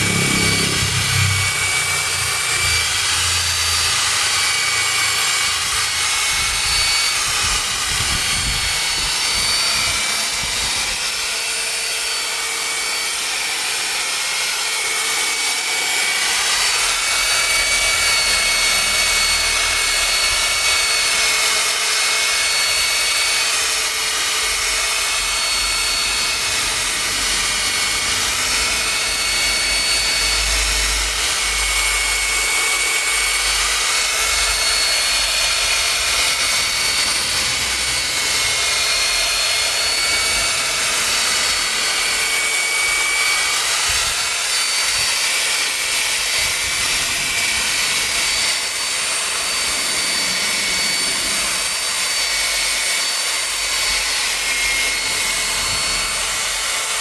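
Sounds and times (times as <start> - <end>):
machine polisher whining: 0.0 - 57.0.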